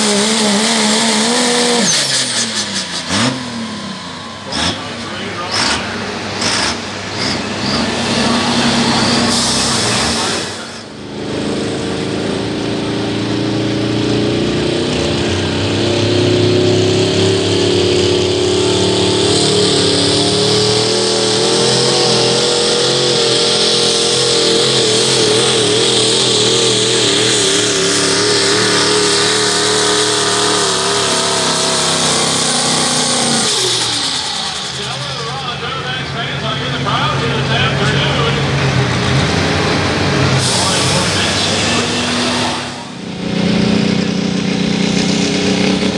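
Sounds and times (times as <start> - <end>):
diesel truck engine under load: 0.0 - 45.9.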